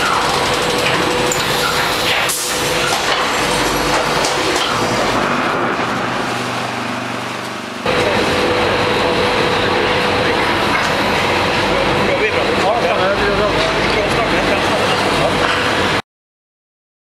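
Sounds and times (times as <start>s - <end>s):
constant hum: 0.0s - 16.0s
production line machinery din: 0.0s - 16.0s.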